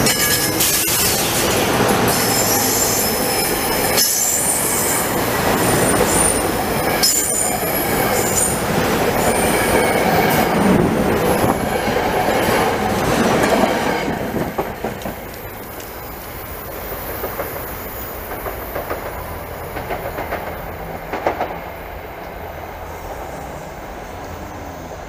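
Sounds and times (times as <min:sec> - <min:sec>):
train rumbling past on rails: 0:00.0 - 0:25.0.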